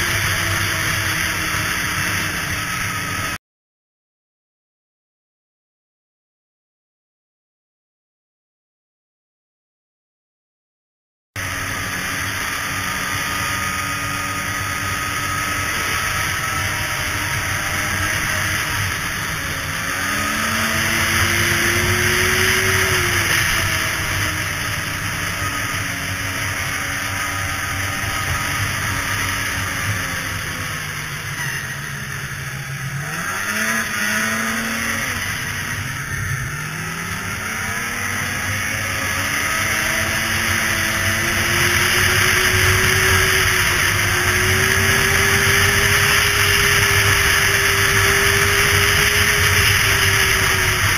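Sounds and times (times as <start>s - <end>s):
snowmobile engine running: 0.0s - 3.4s, 11.4s - 50.9s
snowmobile track noise: 0.0s - 3.4s, 11.4s - 50.9s.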